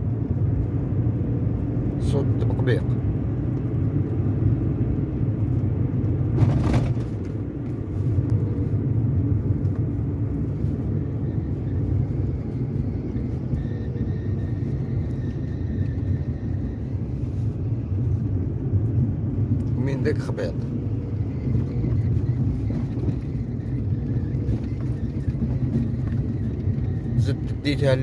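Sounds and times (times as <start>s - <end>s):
road and tyre rumble: 0.0s - 28.0s.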